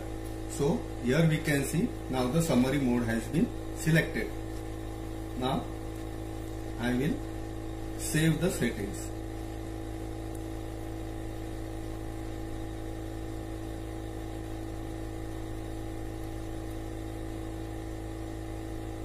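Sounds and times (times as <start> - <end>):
sampling pump humming: 0.0 - 19.0.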